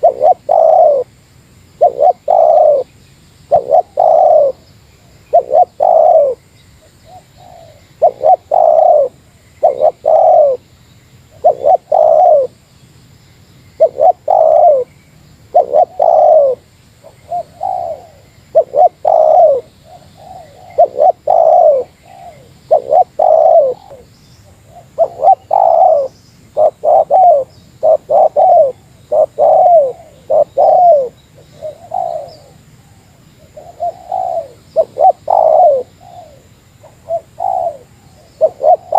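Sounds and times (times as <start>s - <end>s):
dove cooing: 0.0s - 1.1s, 1.8s - 2.9s, 3.5s - 6.4s, 7.0s - 10.6s, 11.3s - 12.6s, 13.8s - 14.9s, 15.5s - 38.9s.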